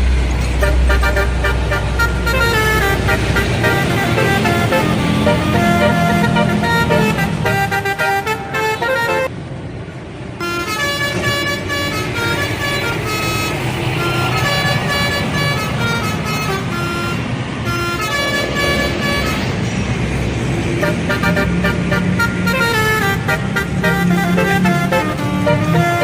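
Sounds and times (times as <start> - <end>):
bus engine and road noise: 0.0 - 26.0
melodic bus air horn: 0.4 - 9.3, 10.4 - 26.0.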